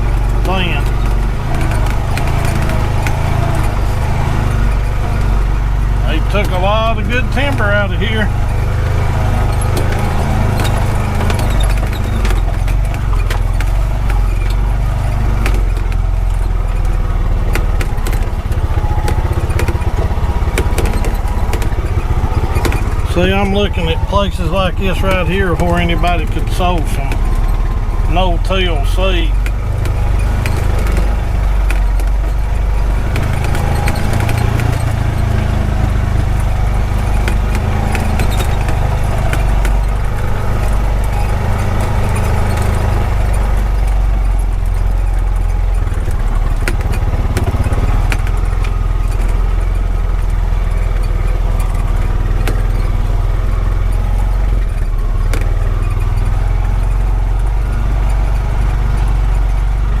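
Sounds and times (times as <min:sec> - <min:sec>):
knocks and rattles over bumps: 0:00.0 - 1:00.0
vehicle engine low drone: 0:00.0 - 1:00.0.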